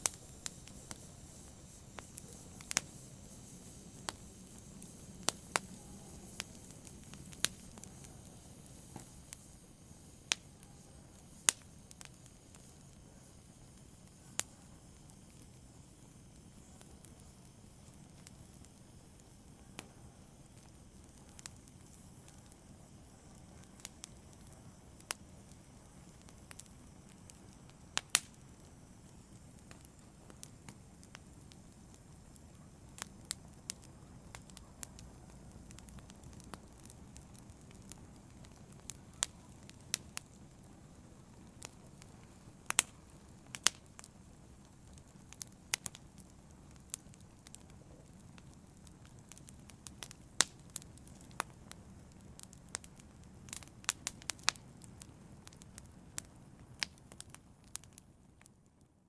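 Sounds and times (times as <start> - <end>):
sharp pops of fire: 0.0 - 58.9
fire crackling in a fireplace: 0.0 - 59.0
soft steady hiss: 0.0 - 59.0.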